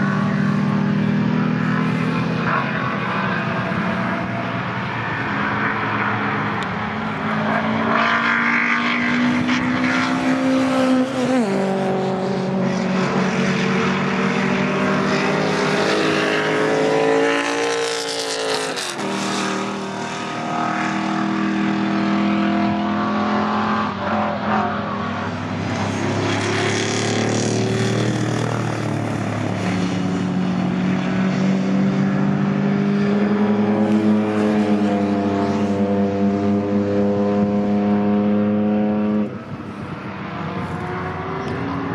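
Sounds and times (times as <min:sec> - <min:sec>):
race car engines passing: 0:00.0 - 0:41.9.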